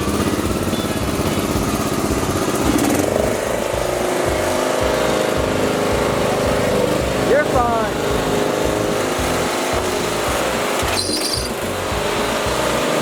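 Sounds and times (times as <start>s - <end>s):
lawn mower engine under load: 0.0s - 13.0s.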